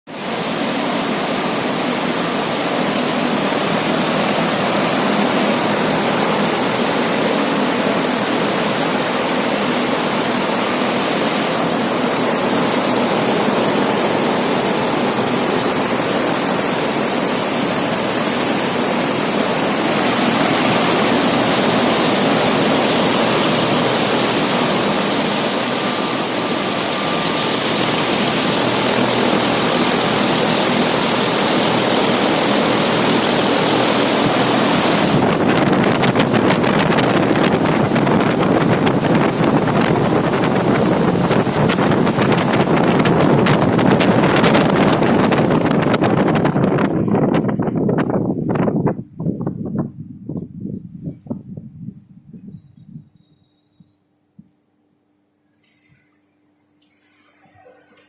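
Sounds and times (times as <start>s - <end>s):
exhaust fan air rushing: 0.1s - 54.6s.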